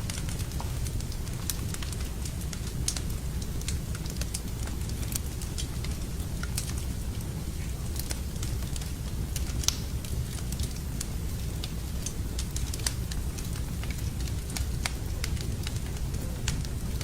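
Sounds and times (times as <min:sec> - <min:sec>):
flames rumbling: 0:00.0 - 0:17.0
wood fire crackling and popping: 0:00.0 - 0:17.0.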